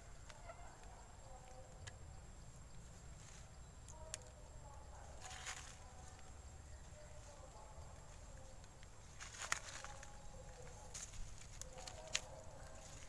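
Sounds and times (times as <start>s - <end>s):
monkeys chewing on a twig: 0.0s - 13.0s.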